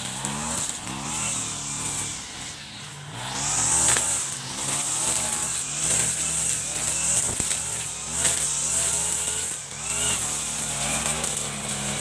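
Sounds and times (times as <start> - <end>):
brush cutter engine revving: 0.0 - 12.0.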